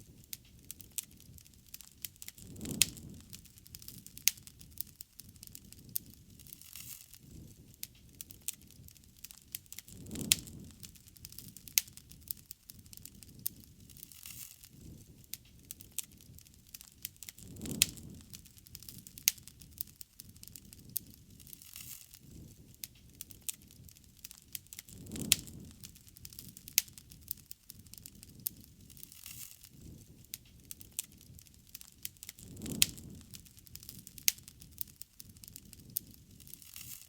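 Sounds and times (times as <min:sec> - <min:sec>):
bonfire crackling and popping: 0:00.0 - 0:37.0
low fire roar: 0:00.0 - 0:37.0.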